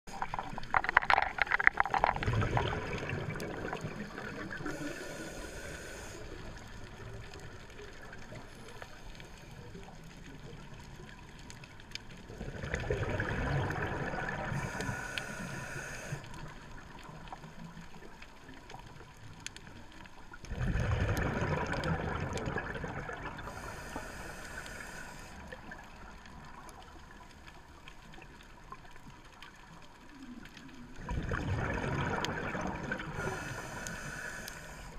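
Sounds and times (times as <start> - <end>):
underwater breath bubbles gurgling: 0.1 - 34.9.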